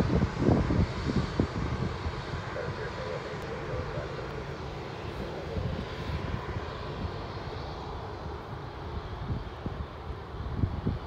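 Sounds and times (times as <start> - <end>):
distant jet airliner rumble: 0.0 - 11.0
wind buffeting microphone: 0.0 - 11.0.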